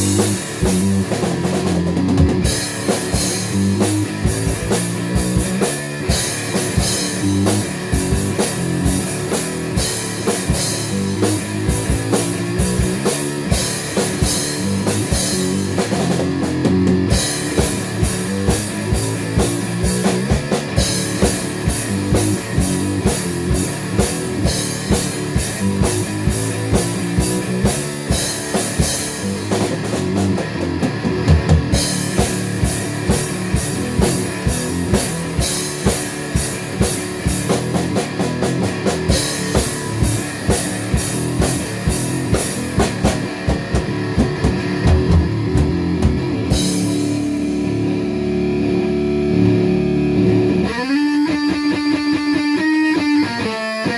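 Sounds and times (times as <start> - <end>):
drum kit fast beat: 0.0 - 47.9
guitar ringing: 0.0 - 53.9
rock song: 0.0 - 53.9.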